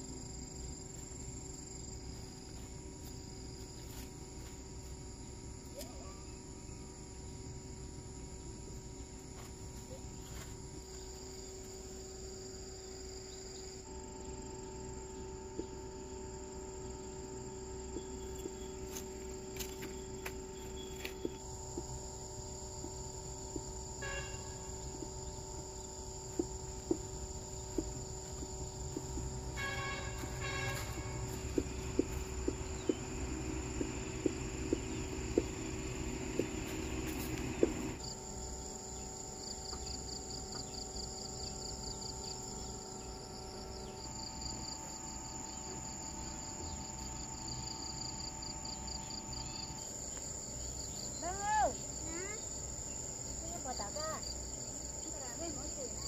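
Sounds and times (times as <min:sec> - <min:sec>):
insect chorus trilling: 0:00.0 - 0:56.0.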